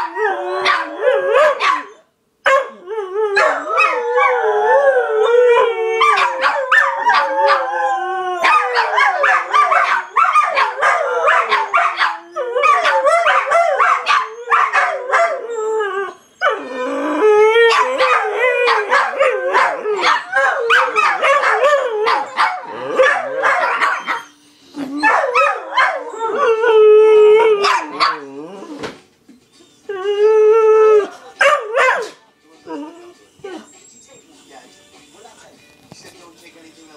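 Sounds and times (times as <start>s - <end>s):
dogs howling: 0.0s - 28.8s, 29.7s - 33.7s
dogs barking and yipping: 0.0s - 34.4s.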